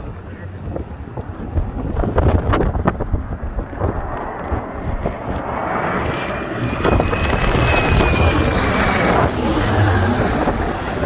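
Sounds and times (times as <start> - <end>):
jet engine whine: 0.0 - 11.0
jet engines rumbling overhead: 0.0 - 11.0
wind buffeting microphone: 0.0 - 11.0.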